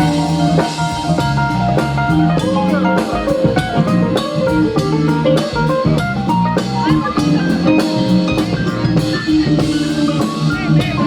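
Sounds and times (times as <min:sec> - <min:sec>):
drum kit: 0:00.0 - 0:11.0.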